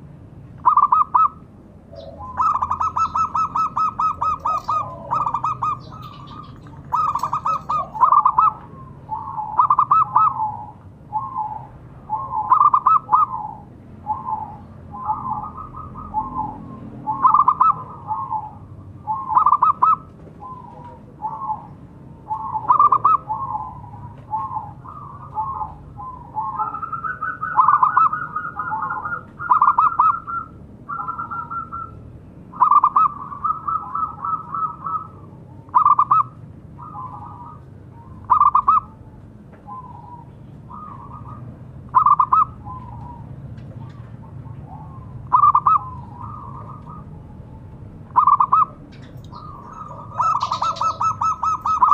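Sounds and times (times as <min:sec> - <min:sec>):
dove cooing: 0:00.6 - 0:51.9
higher steady bird call: 0:00.6 - 0:51.9.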